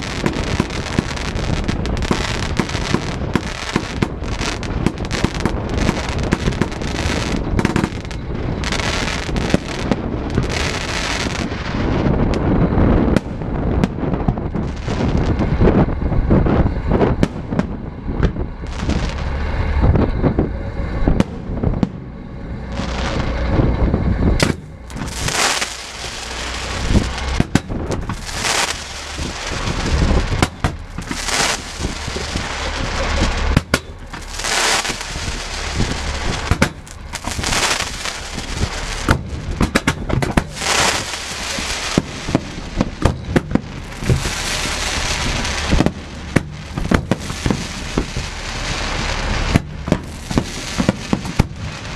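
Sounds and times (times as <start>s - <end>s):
crackling firework hiss: 0.0s - 51.9s
firework shells banging: 0.0s - 51.9s.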